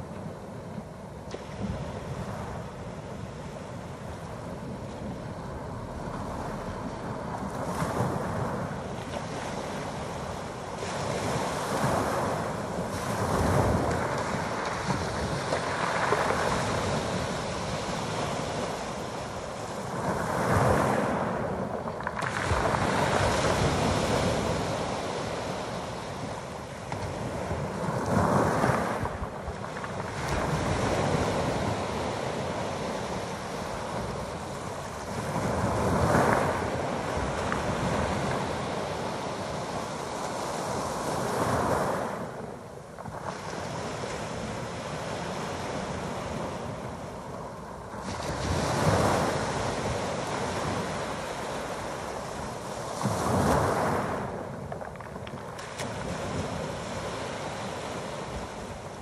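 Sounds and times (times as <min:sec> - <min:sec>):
waves washing up pebble beach: 0:01.4 - 0:59.0.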